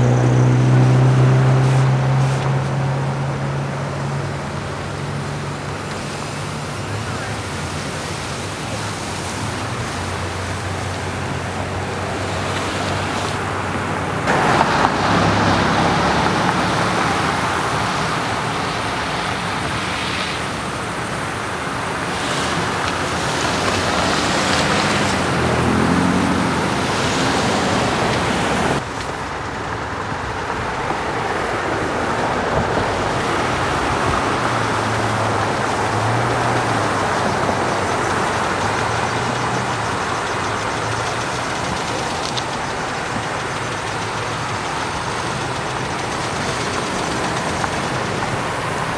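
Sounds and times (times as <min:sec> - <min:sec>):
car engines running: 0:00.0 - 0:48.9
road noise hiss: 0:00.0 - 0:48.9.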